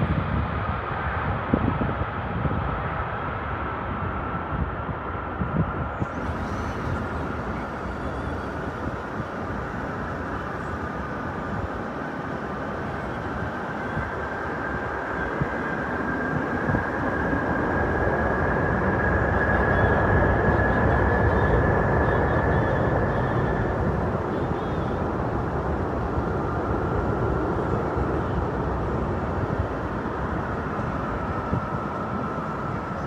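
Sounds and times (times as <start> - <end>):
jet engine high whine: 0.0 - 33.0
jet engines rumbling: 5.1 - 33.0.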